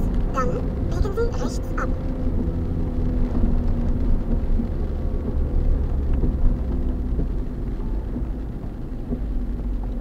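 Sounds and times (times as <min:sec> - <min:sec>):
vehicle engine and tyres rumbling: 0:00.0 - 0:10.0.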